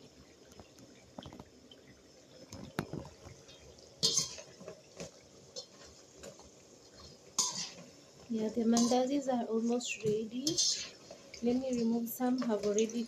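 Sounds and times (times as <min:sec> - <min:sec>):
dough frying in hot oil: 0:00.0 - 0:13.0.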